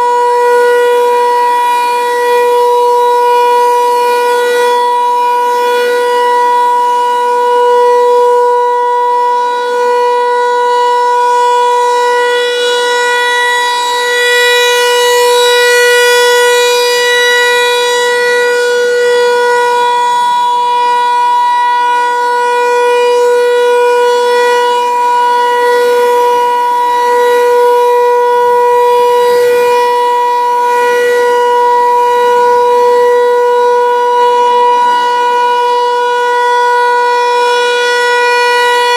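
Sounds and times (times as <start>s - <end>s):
tornado siren steady tone: 0.0s - 38.9s.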